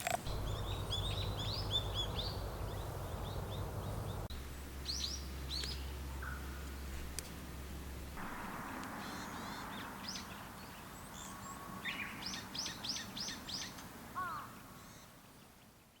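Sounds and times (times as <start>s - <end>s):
birds chirping: 0.0s - 16.0s
steady background hiss: 0.0s - 16.0s.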